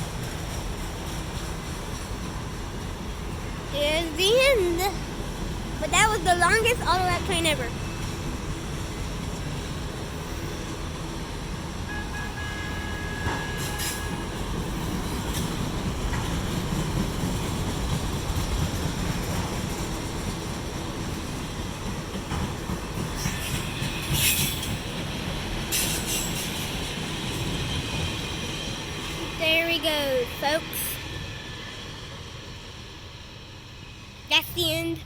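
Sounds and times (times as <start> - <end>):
freight cars rumbling on rails: 0.0 - 35.0.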